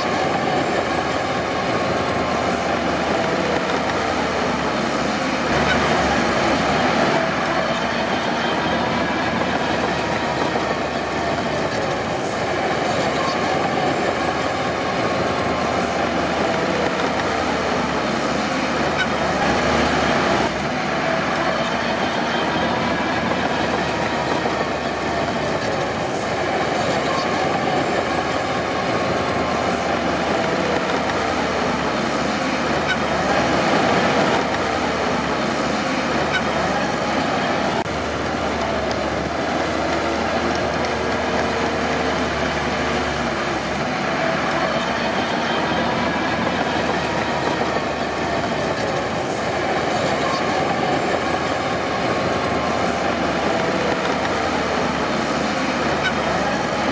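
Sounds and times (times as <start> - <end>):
diesel engine under load: 0.0 - 56.9
steel tracks clanking and squealing: 0.0 - 56.9.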